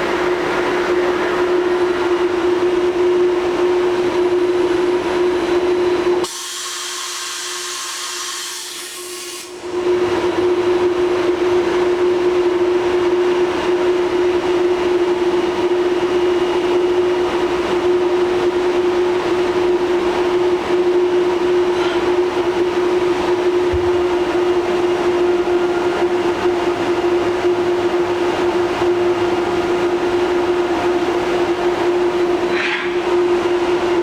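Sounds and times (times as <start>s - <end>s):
machining center running: 0.0s - 6.3s, 9.7s - 34.0s.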